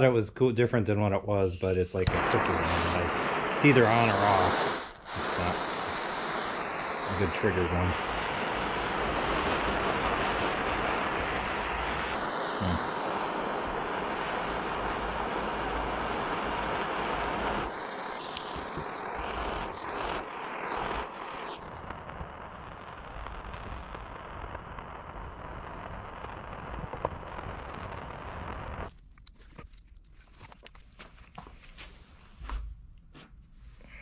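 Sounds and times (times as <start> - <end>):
cooking torch flame hissing: 1.2 - 28.9.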